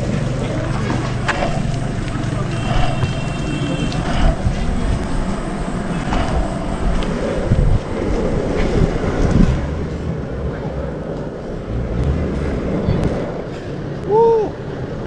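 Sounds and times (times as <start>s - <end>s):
skateboard wheels rolling on road: 0.0s - 15.0s
wind on microphone: 0.0s - 15.0s.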